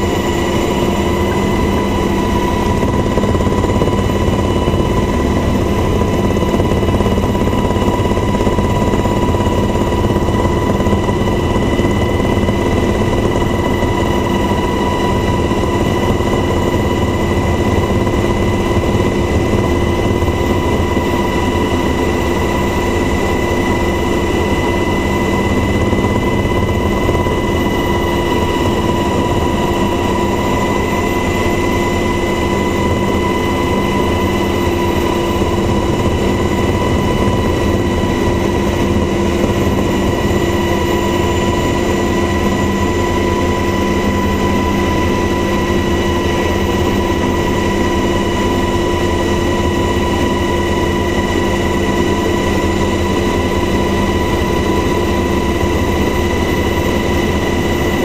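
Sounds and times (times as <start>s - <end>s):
helicopter engine whine: 0.0s - 58.0s
low rumble of engine and rotor: 0.0s - 58.0s.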